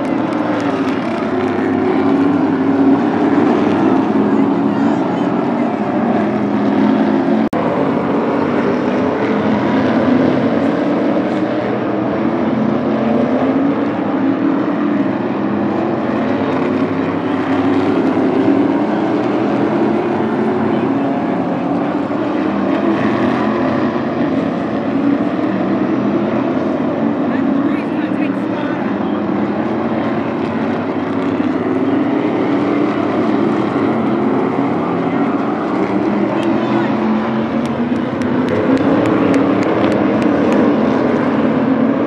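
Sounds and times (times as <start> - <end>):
race car engines droning: 0.0 - 42.0.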